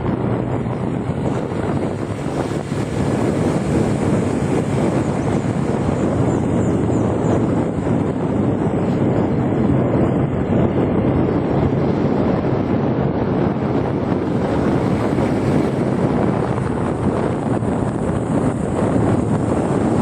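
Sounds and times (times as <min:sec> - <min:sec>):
vehicle and road running noise: 0:00.0 - 0:20.0
wind buffeting microphone: 0:00.0 - 0:20.0.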